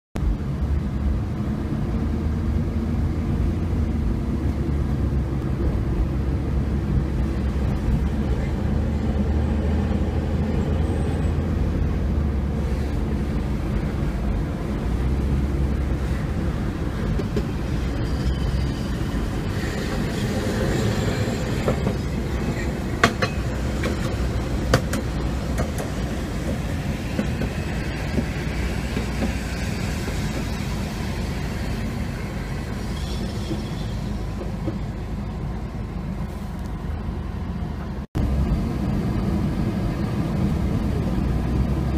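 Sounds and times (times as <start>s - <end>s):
car road noise: 0.2s - 41.9s
tram running on track: 0.2s - 41.9s.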